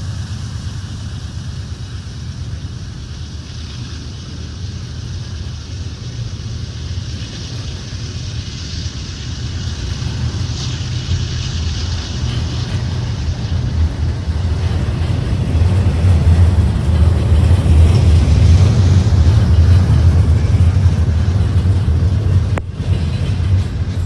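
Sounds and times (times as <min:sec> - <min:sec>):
even hiss: 0:00.0 - 0:24.0
moving train rumble: 0:00.0 - 0:24.0.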